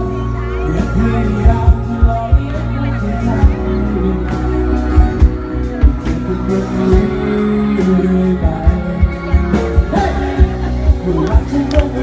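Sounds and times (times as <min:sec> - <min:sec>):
live acoustic band music: 0:00.0 - 0:12.0
person singing: 0:00.0 - 0:12.0.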